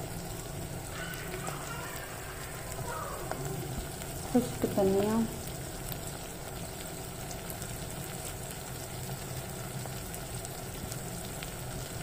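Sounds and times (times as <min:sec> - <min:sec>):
low steady hum: 0:00.0 - 0:12.0
vegetables sizzling in oil: 0:00.0 - 0:12.0.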